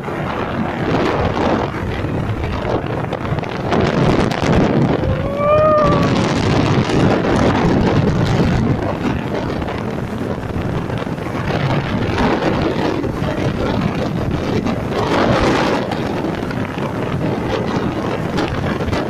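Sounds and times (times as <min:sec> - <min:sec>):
road and vehicle noise: 0:00.0 - 0:19.0
wind buffeting microphone: 0:00.0 - 0:19.0.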